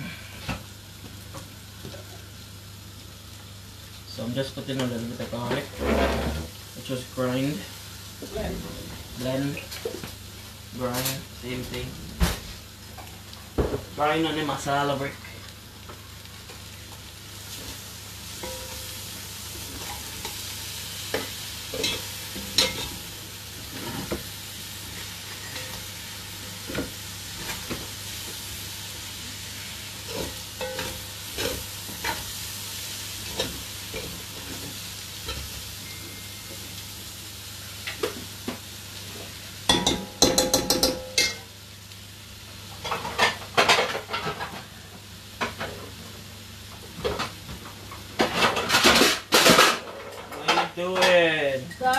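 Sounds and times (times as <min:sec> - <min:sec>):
frying sizzle: 0:00.0 - 0:51.9.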